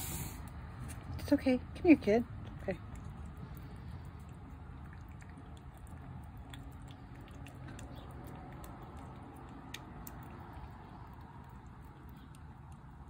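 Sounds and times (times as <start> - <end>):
cat chewing wet food: 2.2 - 13.0.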